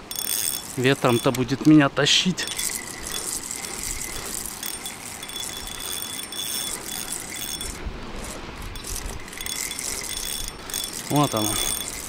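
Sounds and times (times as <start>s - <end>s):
fishing reel clicking winding: 0.0s - 12.0s.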